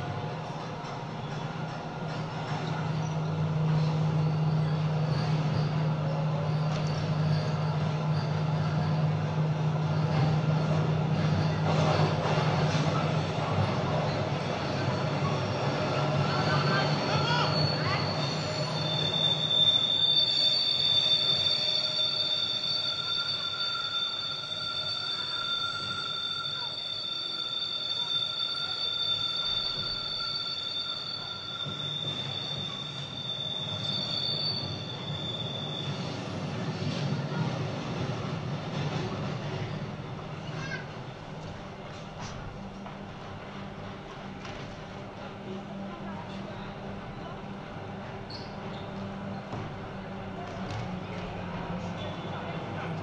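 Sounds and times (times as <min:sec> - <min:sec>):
low train rumble: 0:00.0 - 0:53.0
high-pitched squeal of train wheels: 0:00.5 - 0:41.0, 0:46.1 - 0:53.0.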